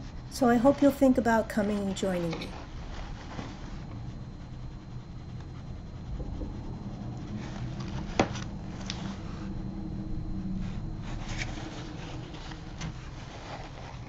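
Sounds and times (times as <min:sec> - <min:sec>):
brush rubbing on paper: 0:00.0 - 0:09.6, 0:10.6 - 0:14.0
low room hum: 0:00.0 - 0:14.0.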